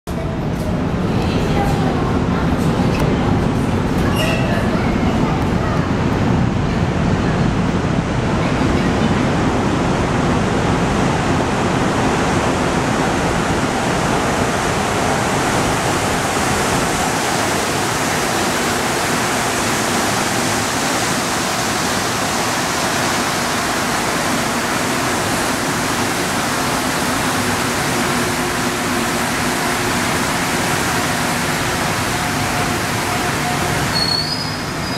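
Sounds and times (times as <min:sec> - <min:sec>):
metro train rolling in: 0:00.1 - 0:34.9.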